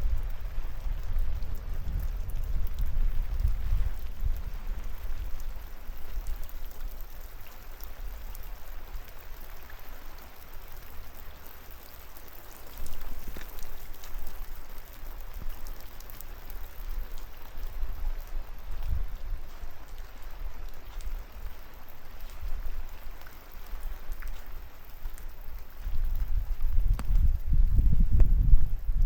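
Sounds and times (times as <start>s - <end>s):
raindrops landing close by: 0.0s - 29.0s
steady rain falling: 0.0s - 29.0s.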